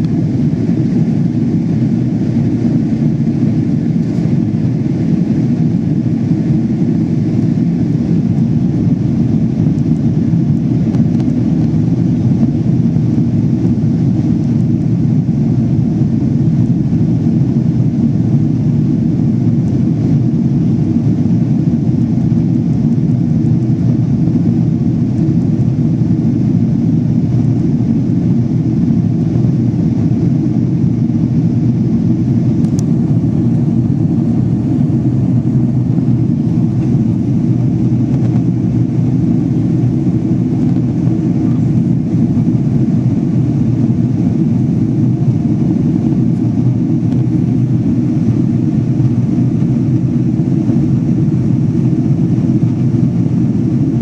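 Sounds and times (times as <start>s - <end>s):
jet airliner cabin rumble: 0.0s - 54.0s.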